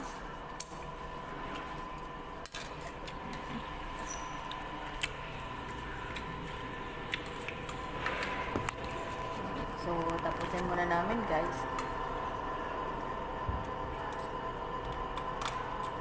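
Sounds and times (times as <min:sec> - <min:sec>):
dining room hum: 0:00.0 - 0:16.0.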